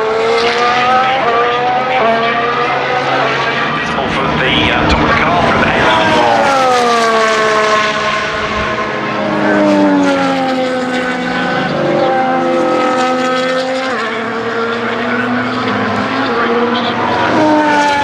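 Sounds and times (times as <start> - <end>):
race cars passing at speed: 0.0 - 18.0.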